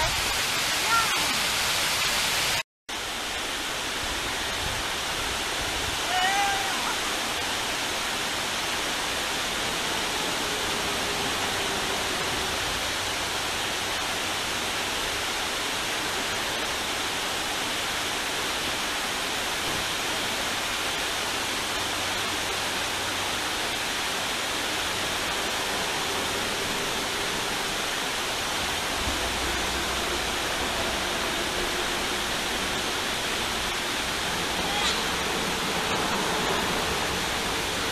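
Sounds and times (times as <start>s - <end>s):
water pouring over dam spillway: 0.0s - 37.9s.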